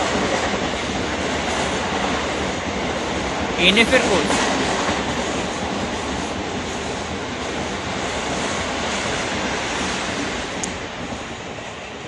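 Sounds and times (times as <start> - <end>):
passenger train passing at speed: 0.0 - 12.0.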